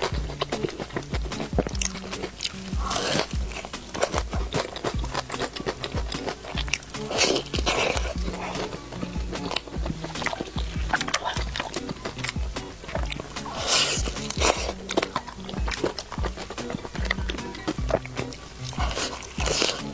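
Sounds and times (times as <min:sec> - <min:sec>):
background music with beat: 0:00.0 - 0:19.9
crunchy bites and chewing: 0:00.0 - 0:19.9.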